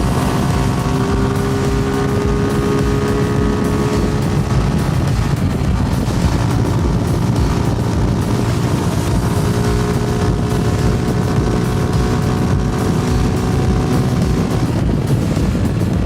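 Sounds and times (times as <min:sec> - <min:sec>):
motorcycle engine and exhaust: 0:00.0 - 0:16.0
wind rushing: 0:00.0 - 0:16.0.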